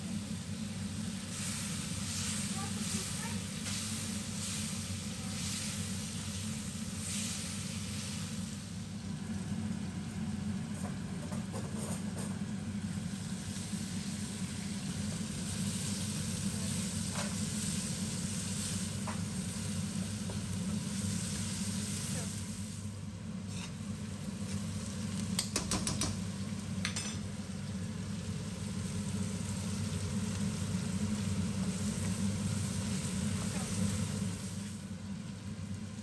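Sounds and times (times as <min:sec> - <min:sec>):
meat sizzling in hot oil: 0:00.0 - 0:36.0.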